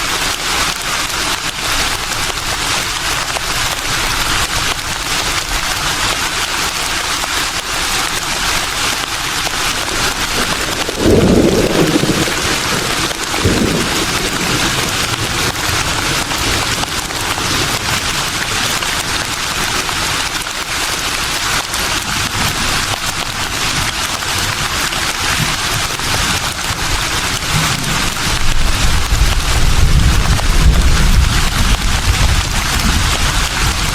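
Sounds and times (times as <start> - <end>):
wind rustling through leaves: 0.0 - 33.9.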